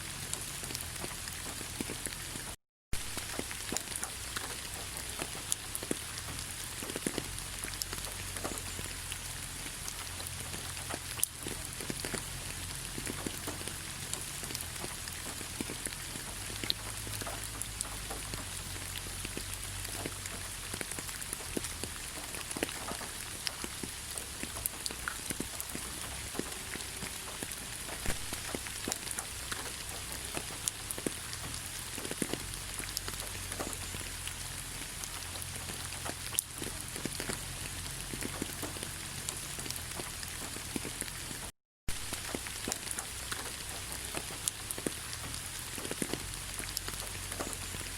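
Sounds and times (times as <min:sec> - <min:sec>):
raindrops ticking on surfaces: 0:00.0 - 0:47.9
steady rain hiss: 0:00.0 - 0:47.9.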